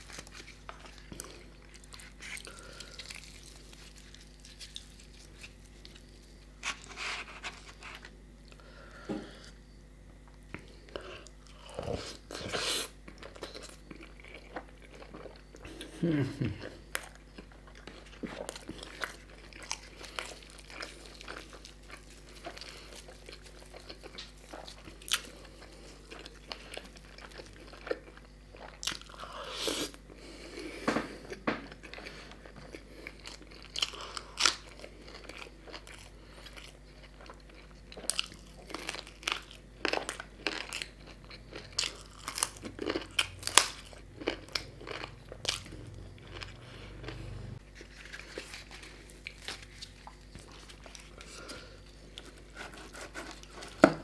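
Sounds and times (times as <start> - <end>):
man chewing and biting food: 0.0 - 8.7, 9.5 - 54.0.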